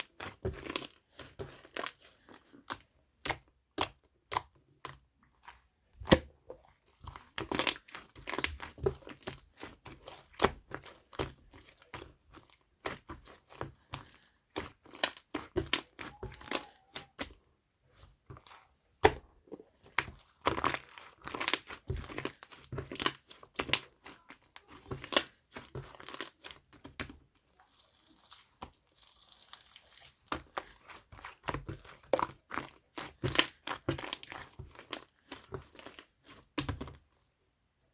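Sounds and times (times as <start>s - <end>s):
slime clicking and crackling: 0.0s - 6.3s, 6.9s - 37.0s.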